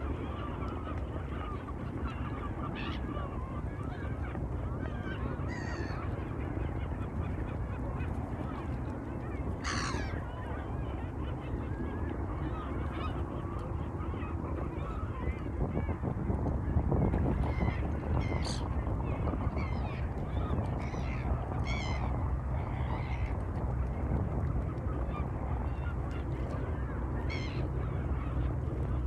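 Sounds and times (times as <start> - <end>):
low background rumble: 0.0 - 29.0
waterbirds honking and squawking: 0.0 - 29.0.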